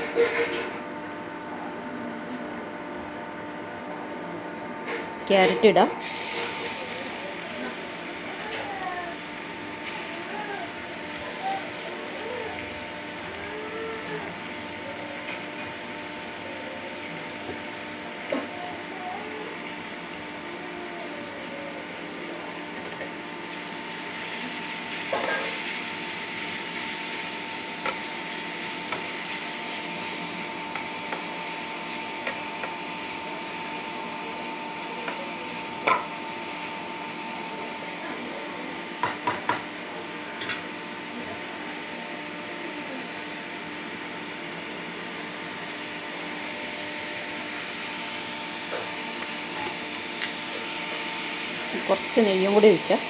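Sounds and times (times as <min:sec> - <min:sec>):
food sizzling in a pan: 0:06.0 - 0:53.0.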